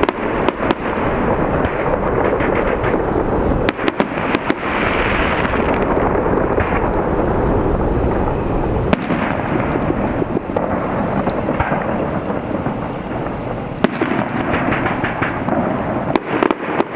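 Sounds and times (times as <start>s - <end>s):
firework shells bursting crackling: 0.0s - 16.9s
sharp firework reports: 0.0s - 16.9s.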